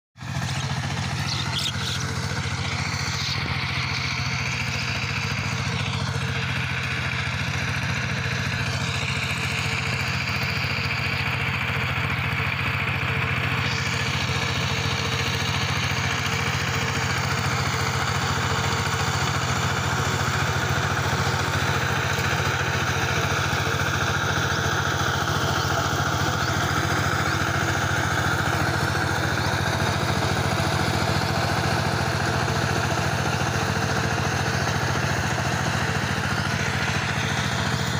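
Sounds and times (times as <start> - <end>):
diesel tiller engine running: 0.2 - 37.9.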